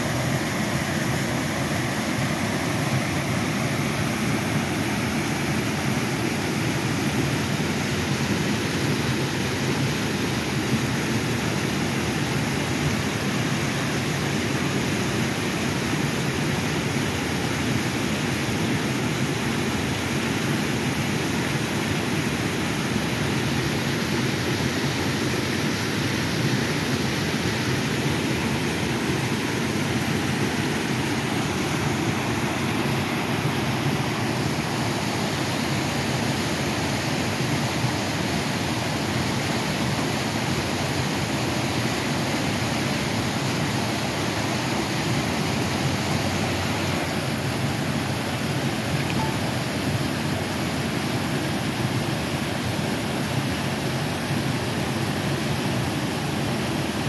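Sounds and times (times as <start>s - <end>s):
creek water rushing over rocks: 0.0s - 57.0s.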